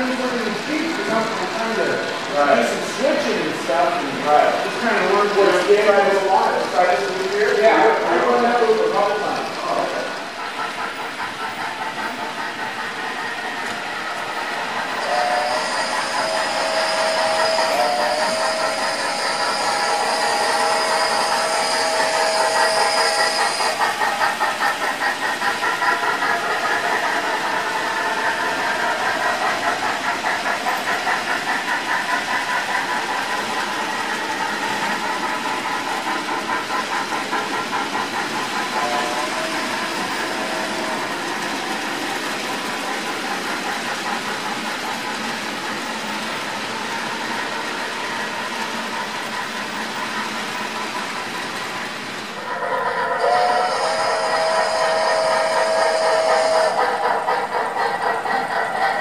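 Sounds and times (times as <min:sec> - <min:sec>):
model train rumbling on track: 0:00.0 - 0:59.0
rhythmic steam exhaust chuffing: 0:00.0 - 0:59.0.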